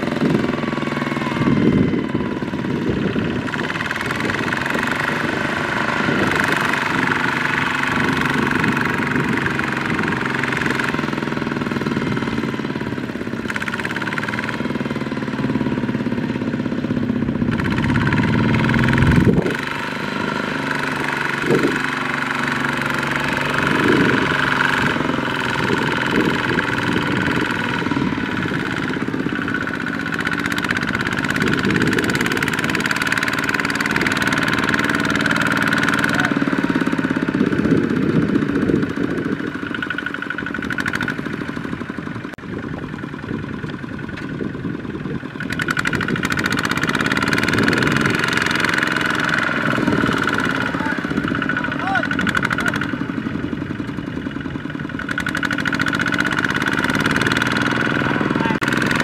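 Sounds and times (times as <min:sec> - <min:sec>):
diesel tractor engines running: 0:00.0 - 0:59.0.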